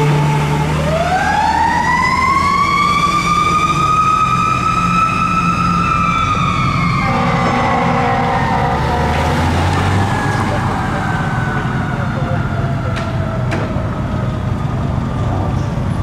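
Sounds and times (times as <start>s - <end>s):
fire engine siren wailing: 0.0s - 15.3s
truck engine rumble: 0.0s - 16.0s.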